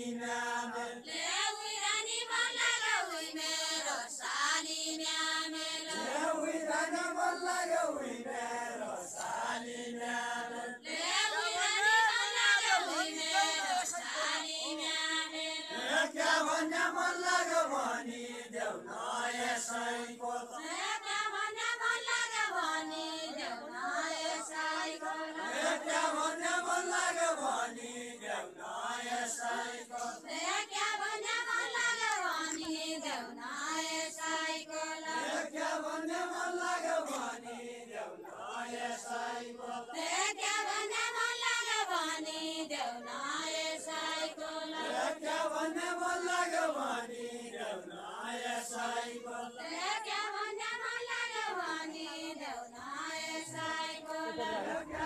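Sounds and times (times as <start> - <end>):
group singing without instruments: 0.0 - 55.0.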